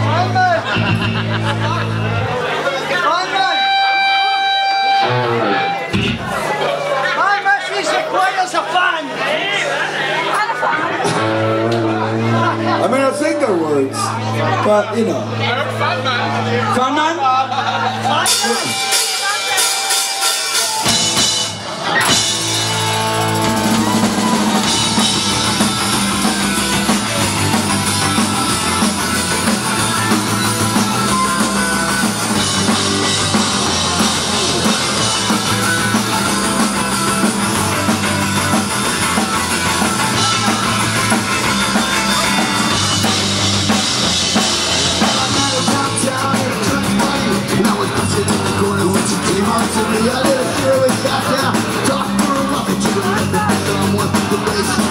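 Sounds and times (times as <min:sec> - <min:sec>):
drum kit: 0:00.0 - 0:02.4, 0:03.4 - 0:06.6, 0:11.0 - 0:14.6, 0:18.0 - 0:54.9
electric guitars riffing: 0:00.0 - 0:07.1, 0:09.2 - 0:54.9
bass guitar: 0:00.0 - 0:07.2, 0:09.8 - 0:54.9.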